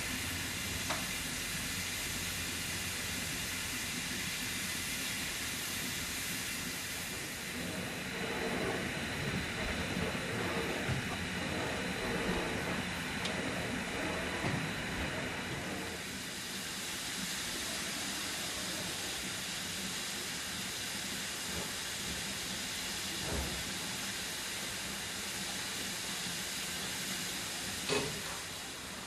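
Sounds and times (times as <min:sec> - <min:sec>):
hiss of escaping steam: 0:00.0 - 0:29.0.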